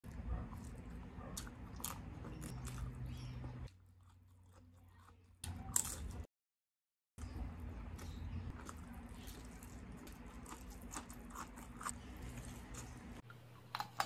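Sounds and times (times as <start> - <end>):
chewing and biting food: 0.0 - 6.3, 7.9 - 13.2.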